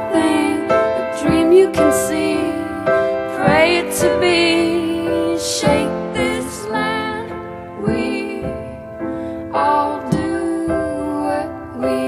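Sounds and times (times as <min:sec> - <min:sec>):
woman singing: 0:00.0 - 0:08.8, 0:09.4 - 0:12.0
piano: 0:00.0 - 0:12.0.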